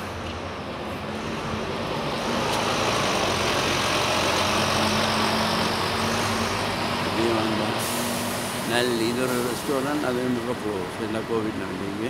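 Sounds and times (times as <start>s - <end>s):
large vehicle engine running: 0.0s - 12.0s
street traffic: 0.0s - 12.0s.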